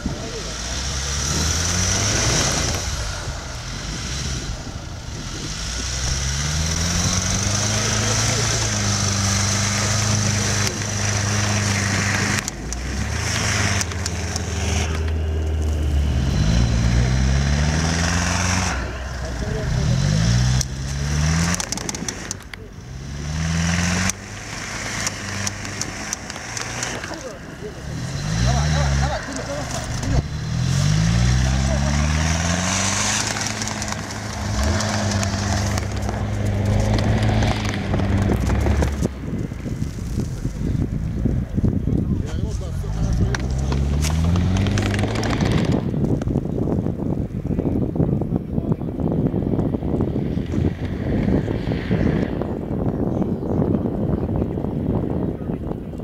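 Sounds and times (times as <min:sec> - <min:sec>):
wheels spinning in snow: 0:00.0 - 0:48.0
car engine running hard: 0:00.0 - 0:56.0.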